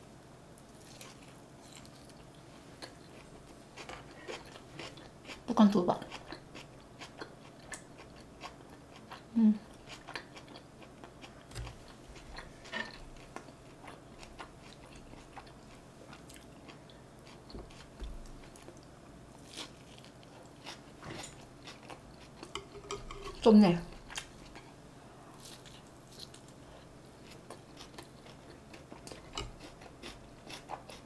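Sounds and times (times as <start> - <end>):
person chewing: 0.8 - 31.0.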